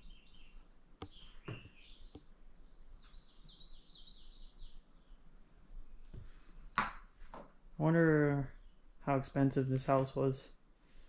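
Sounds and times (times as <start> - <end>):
bird chirping: 0.0 - 6.7, 8.1 - 10.4.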